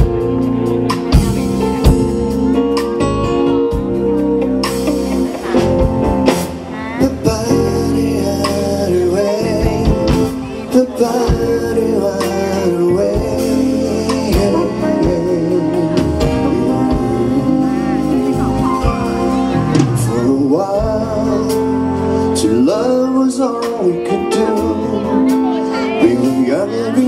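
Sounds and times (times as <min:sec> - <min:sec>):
band playing a song: 0:00.0 - 0:27.0
person singing: 0:00.0 - 0:27.0.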